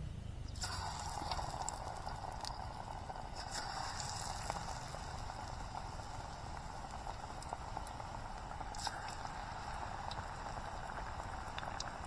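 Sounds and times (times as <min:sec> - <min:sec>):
food deep-frying in oil: 0:00.5 - 0:12.0.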